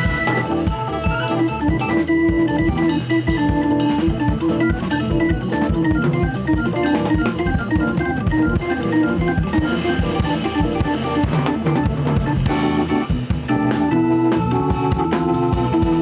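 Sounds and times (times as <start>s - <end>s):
drum kit played with sticks: 0.0s - 16.0s
jazz organ playing: 0.0s - 16.0s.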